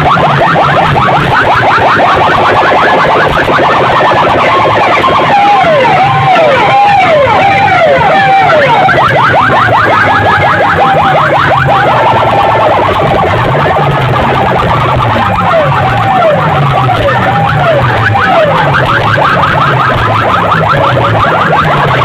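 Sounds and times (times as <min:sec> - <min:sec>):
electronic siren effects: 0:00.0 - 0:22.0
pulsing bass: 0:00.0 - 0:22.0.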